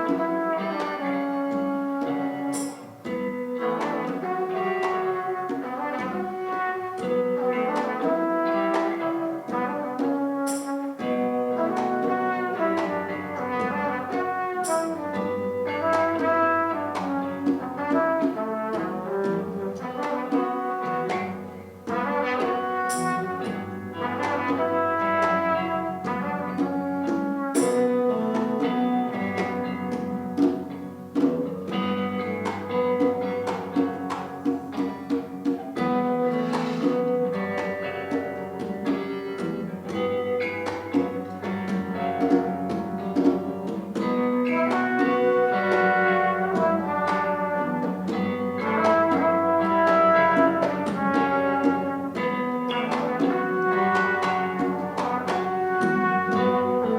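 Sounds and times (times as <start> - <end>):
brass band playing: 0.0 - 56.9.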